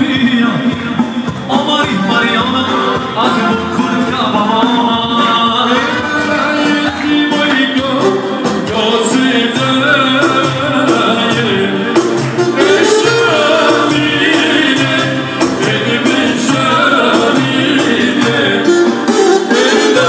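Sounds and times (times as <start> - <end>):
folk dance music with singer: 0.0 - 20.0.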